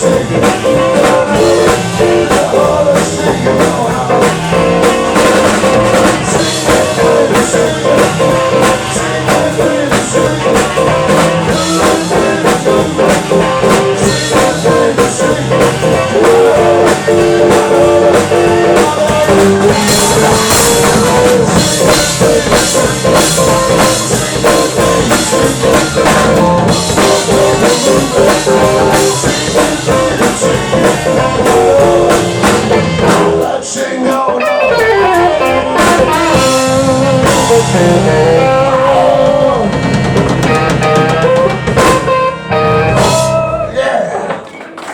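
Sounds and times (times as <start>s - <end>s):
drum kit beat: 0.0s - 44.9s
electric guitar: 0.0s - 44.9s.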